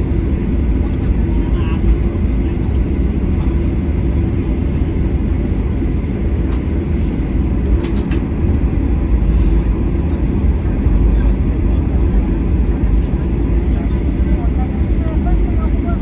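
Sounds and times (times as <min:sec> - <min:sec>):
jet engines low rumble: 0:00.0 - 0:16.0.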